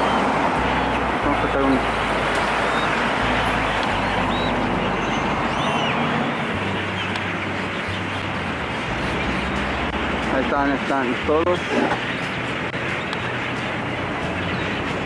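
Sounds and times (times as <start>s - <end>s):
city traffic rumble: 0.0s - 15.0s
flock of blackbirds chattering: 0.0s - 15.0s.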